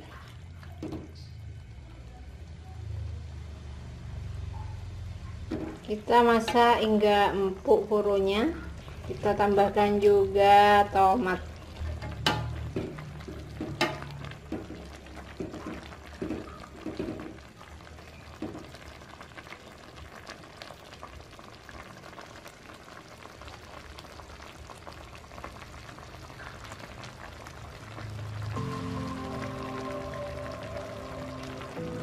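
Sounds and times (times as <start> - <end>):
stew bubbling in a pot: 0.0 - 32.0.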